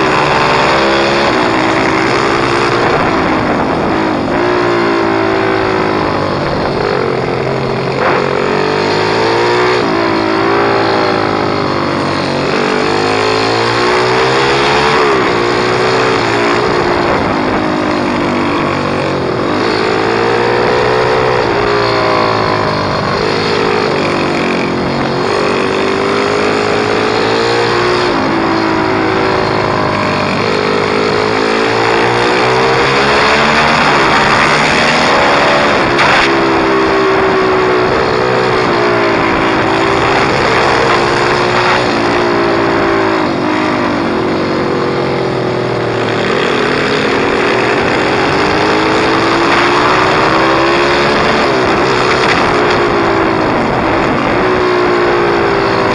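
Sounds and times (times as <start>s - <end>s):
small motorbike engine revving: 0.0s - 55.9s.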